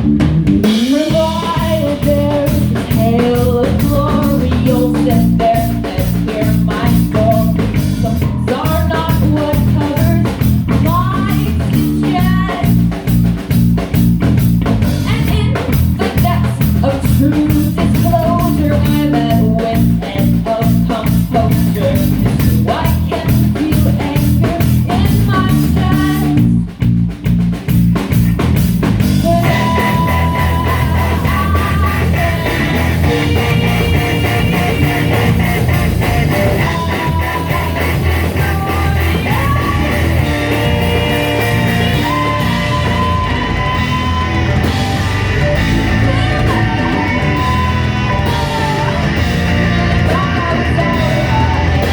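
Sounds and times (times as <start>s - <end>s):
drums: 0.0s - 51.9s
electric guitar: 0.0s - 51.9s
rock band playing: 0.0s - 51.9s
person singing: 0.6s - 13.0s, 15.0s - 26.6s, 29.2s - 51.9s.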